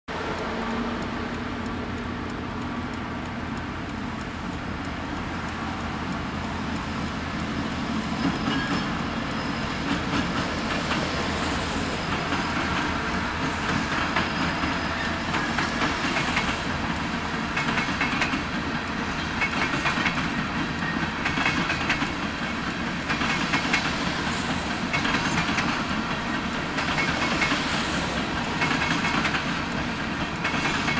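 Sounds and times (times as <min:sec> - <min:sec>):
freight train rumble: 0:00.1 - 0:30.9
train wheels clattering over rails: 0:04.9 - 0:30.9.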